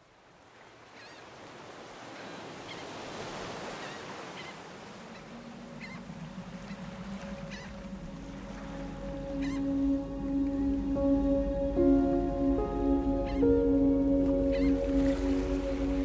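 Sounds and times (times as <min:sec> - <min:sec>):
ocean surf washing: 0:00.5 - 0:16.0.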